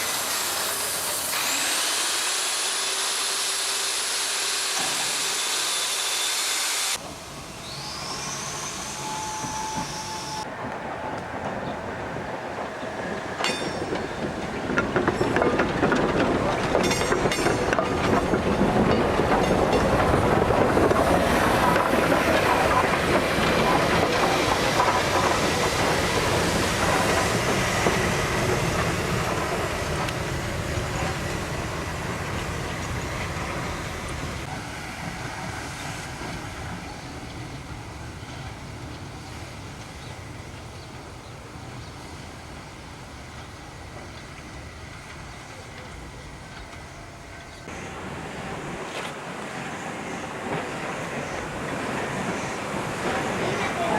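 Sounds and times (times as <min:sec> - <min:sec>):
steam train wheels clacking: 0:08.2 - 0:41.0, 0:41.6 - 0:53.9.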